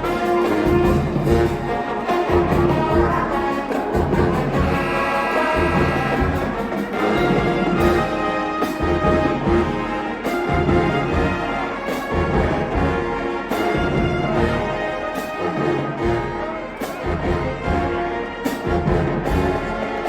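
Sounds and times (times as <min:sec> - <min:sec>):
background music with brass: 0:00.0 - 0:20.0.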